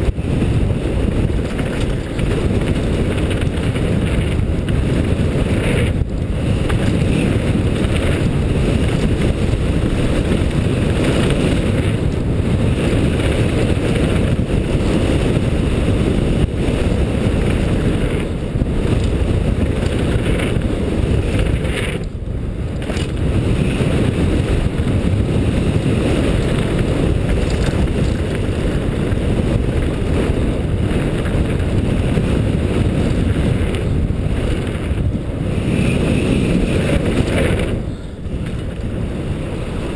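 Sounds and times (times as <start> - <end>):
bike rattling over rough ground: 0.0 - 39.9
low rumbling wind noise: 0.0 - 39.9.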